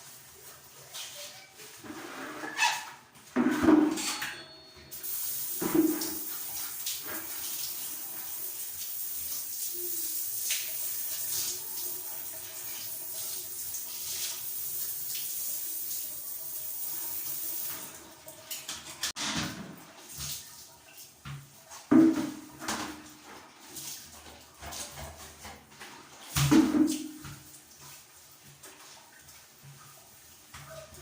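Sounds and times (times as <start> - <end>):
water running from a tap: 4.9 - 19.2, 19.8 - 31.0.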